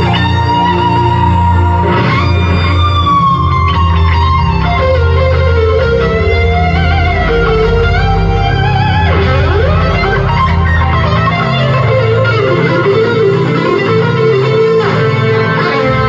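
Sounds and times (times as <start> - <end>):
bass guitar: 0.0 - 16.0
lead electric guitar: 0.0 - 16.0.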